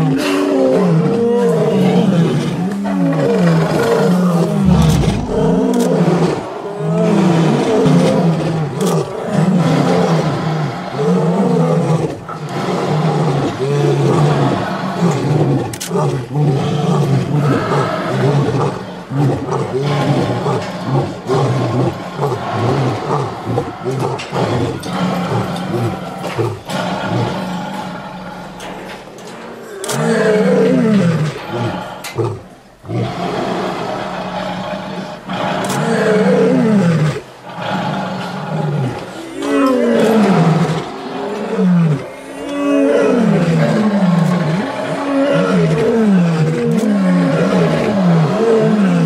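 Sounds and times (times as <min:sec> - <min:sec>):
lions roaring: 0:00.0 - 0:49.0.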